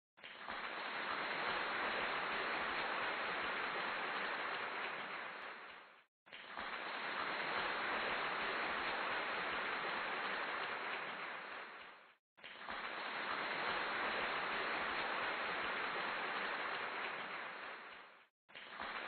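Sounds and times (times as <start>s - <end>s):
steady hiss like rain: 0.2s - 19.0s.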